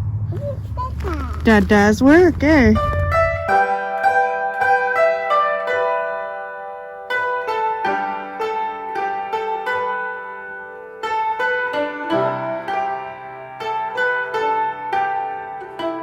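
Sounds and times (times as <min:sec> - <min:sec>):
plucked string melody: 0:00.4 - 0:16.0.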